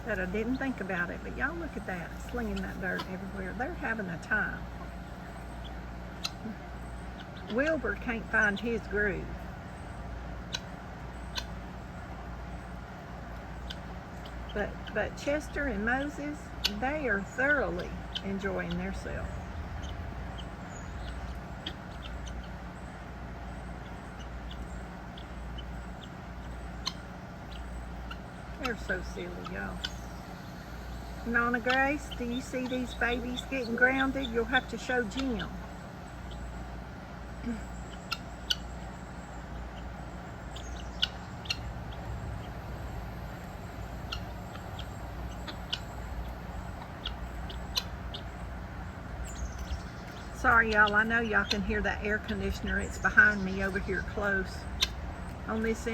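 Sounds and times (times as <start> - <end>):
air conditioner unit humming: 0.0 - 55.9
poultry chirping: 0.0 - 55.9.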